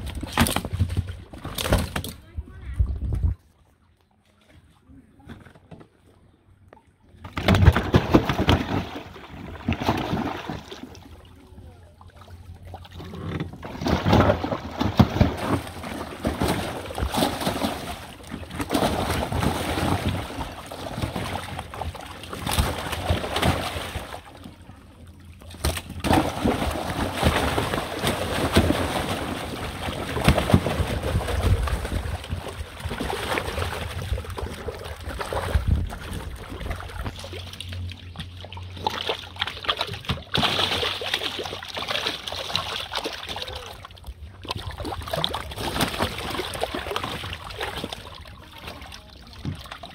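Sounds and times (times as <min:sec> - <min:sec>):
fish splashing in water: 0:07.2 - 0:11.4, 0:12.0 - 0:24.5, 0:25.3 - 0:49.9.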